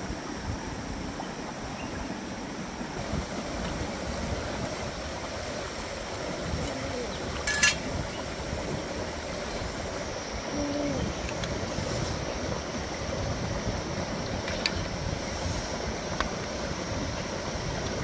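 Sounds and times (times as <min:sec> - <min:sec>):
rocky stream rushing: 0:00.0 - 0:18.0.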